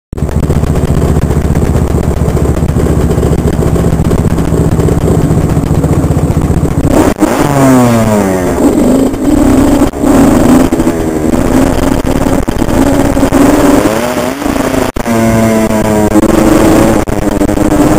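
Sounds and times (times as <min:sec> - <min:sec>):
dirt bike engine idling: 0:00.2 - 0:17.9
dirt bike engine revving: 0:00.2 - 0:17.9.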